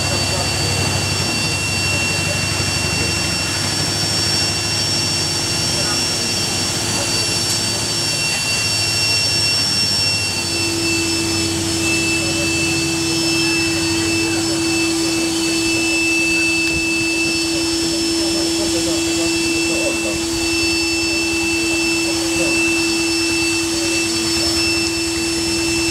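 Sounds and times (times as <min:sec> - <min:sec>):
faint high whistling tones: 0:00.0 - 0:25.9
loud rushing machine noise: 0:00.0 - 0:25.9
steady hum: 0:00.0 - 0:25.9.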